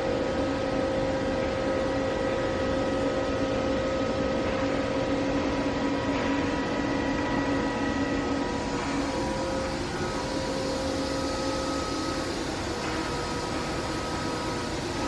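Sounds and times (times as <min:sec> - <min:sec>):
machining center humming and whining: 0:00.0 - 0:15.0.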